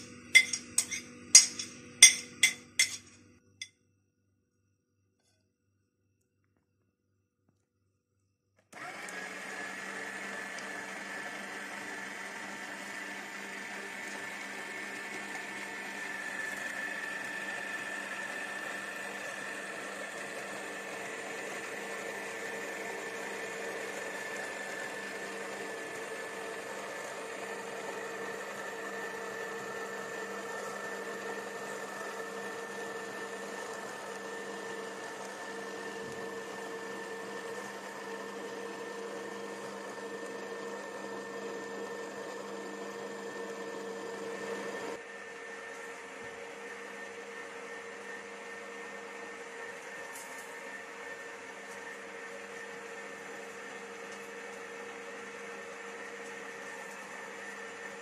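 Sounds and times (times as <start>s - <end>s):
meat grinder motor whining: 8.7s - 58.0s.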